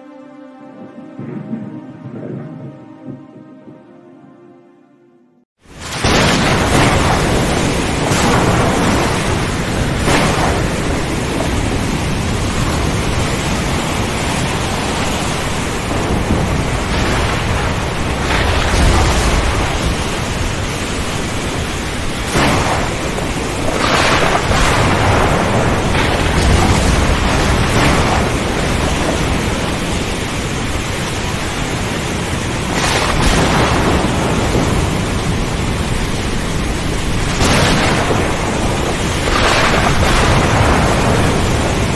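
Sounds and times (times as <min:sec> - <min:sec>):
deep thunder rumbles: 0:00.8 - 0:03.9, 0:05.7 - 0:41.9
close splashes: 0:05.6 - 0:41.9
heavy rain hissing: 0:05.6 - 0:41.9.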